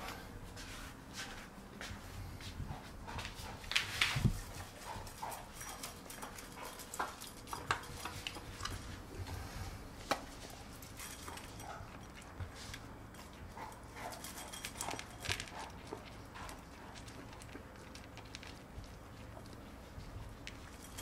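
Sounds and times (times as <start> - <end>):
dog crunching dry kibble: 3.5 - 21.0.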